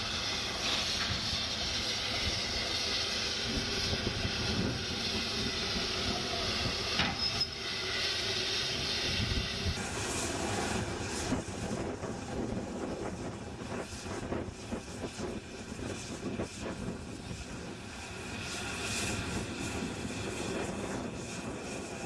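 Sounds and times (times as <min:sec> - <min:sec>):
low locomotive rumble: 0:00.0 - 0:22.0.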